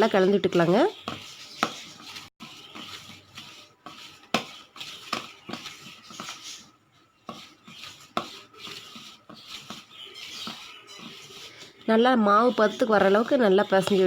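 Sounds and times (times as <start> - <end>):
spoon scraping a bowl: 0.0 - 14.0.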